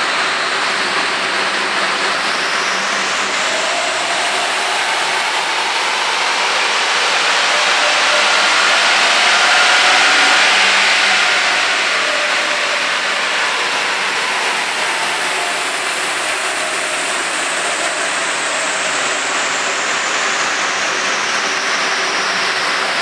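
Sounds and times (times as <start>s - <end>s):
dyno rushing noise: 0.0s - 23.0s.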